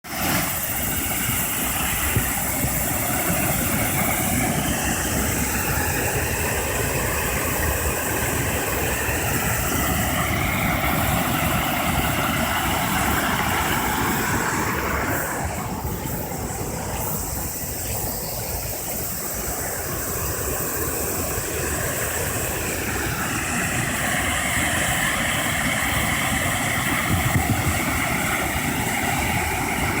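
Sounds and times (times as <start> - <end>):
river rushing: 0.2 - 30.0.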